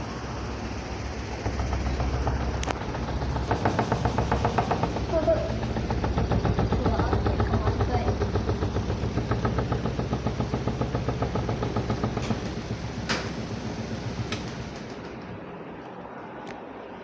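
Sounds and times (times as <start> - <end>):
washing machine spin tub humming: 0.0 - 17.0.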